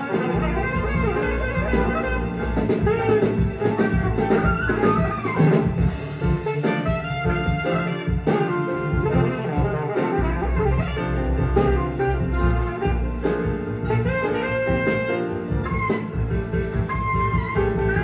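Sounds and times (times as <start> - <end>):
alto saxophone: 0.0 - 18.0
jazz over speakers: 0.0 - 18.0.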